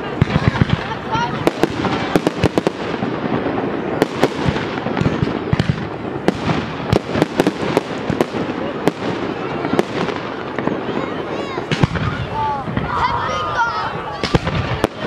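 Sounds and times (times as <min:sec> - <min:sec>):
continuous din: 0:00.0 - 0:15.0
fireworks bursting bangs: 0:00.0 - 0:15.0.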